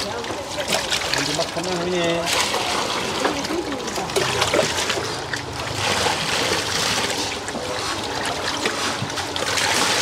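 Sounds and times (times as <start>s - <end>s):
water splashing and trickling: 0.0s - 10.0s.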